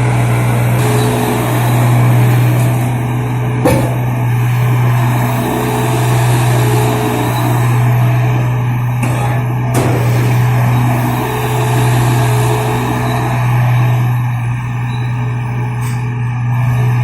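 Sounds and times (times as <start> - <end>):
excavator engine running: 0.0 - 17.0
hydraulic whine: 0.0 - 17.0.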